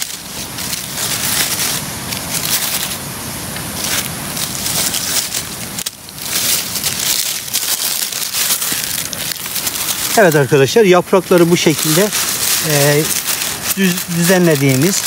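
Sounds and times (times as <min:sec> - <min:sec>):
dry leaves crunching: 0:00.0 - 0:15.0.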